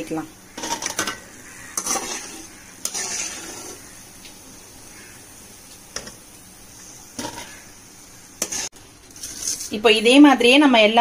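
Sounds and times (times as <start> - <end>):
dough sizzling in hot oil: 0.0 - 11.0.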